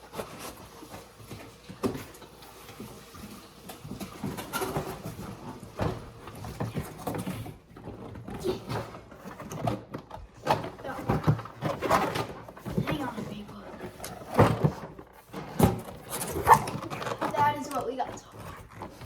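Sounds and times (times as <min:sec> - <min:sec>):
cardboard and plastic rustling: 0:00.0 - 0:19.0.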